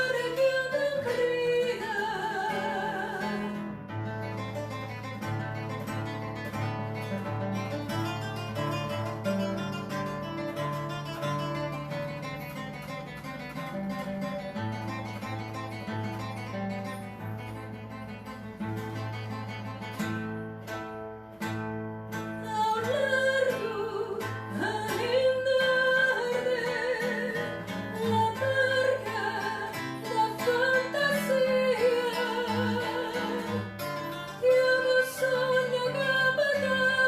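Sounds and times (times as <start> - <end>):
acoustic guitar playing: 0.0 - 37.0.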